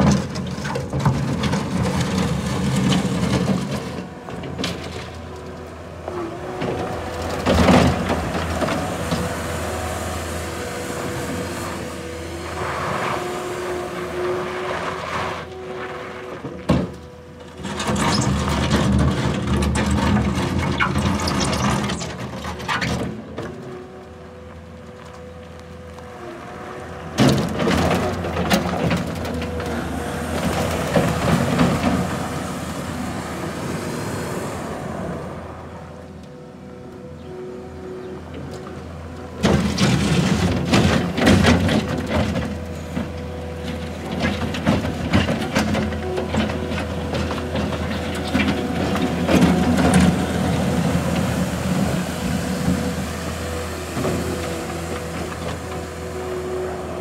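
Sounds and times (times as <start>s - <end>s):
diesel engine running: 0.0s - 57.0s
loader driving over gravel: 0.0s - 57.0s.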